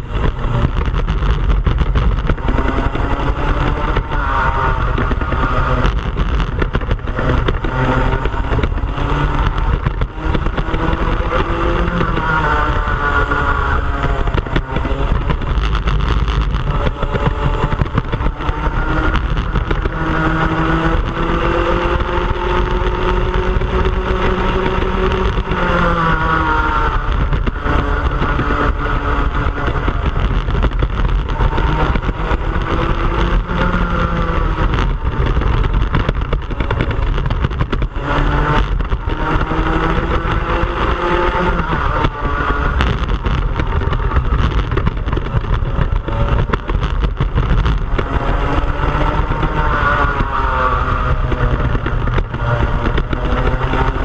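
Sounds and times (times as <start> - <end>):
kart engine revving: 0.0 - 54.0
wind rumble on microphone: 0.0 - 54.0.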